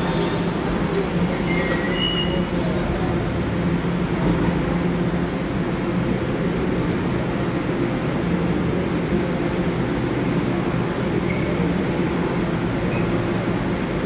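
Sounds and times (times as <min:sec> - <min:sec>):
subway train air conditioning humming: 0:00.0 - 0:14.0.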